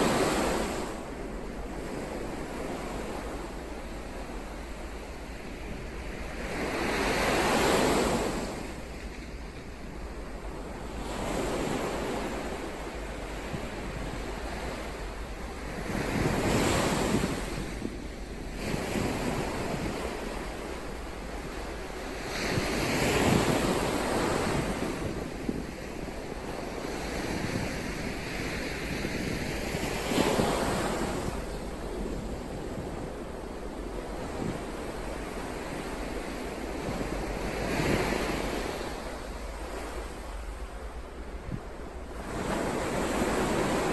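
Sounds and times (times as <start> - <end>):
ocean waves washing ashore: 0.0 - 43.9.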